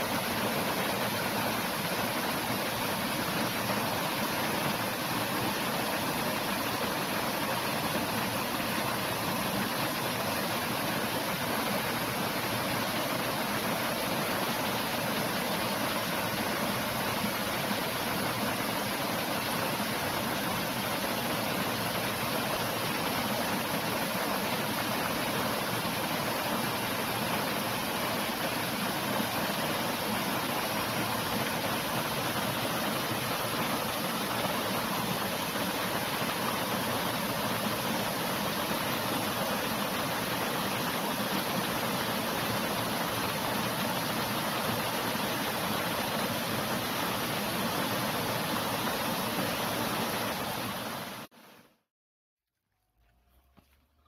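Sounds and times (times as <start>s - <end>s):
stream rushing over boulders: 0.0s - 51.3s.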